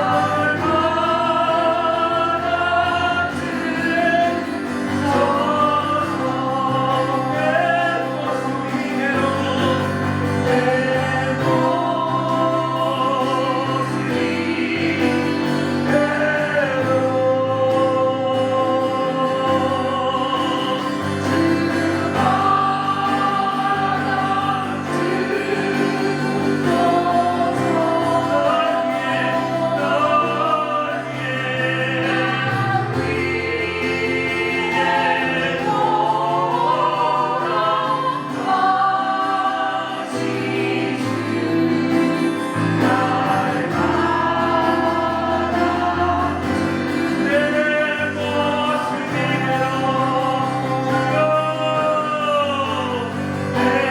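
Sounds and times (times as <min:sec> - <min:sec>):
group singing a hymn: 0:00.0 - 0:53.9.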